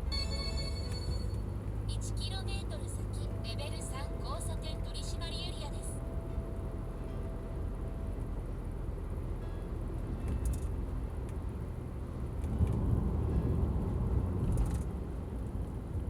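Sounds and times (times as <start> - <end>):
road vehicle engine and tyre drone: 0.0 - 16.0.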